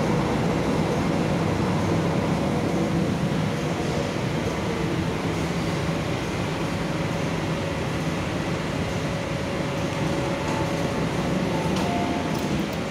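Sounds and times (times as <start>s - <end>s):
train rumble and hiss: 0.0s - 12.9s.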